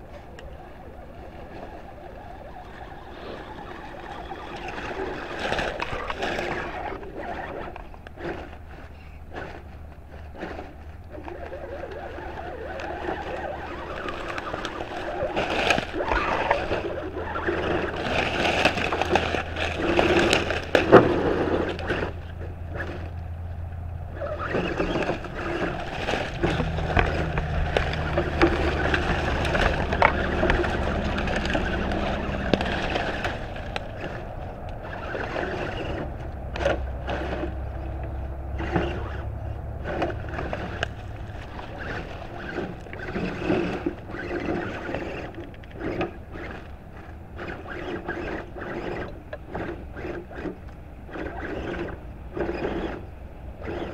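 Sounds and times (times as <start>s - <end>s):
dry leaves and twigs crackling: 0.0s - 53.9s
toy truck motor humming: 0.0s - 53.9s.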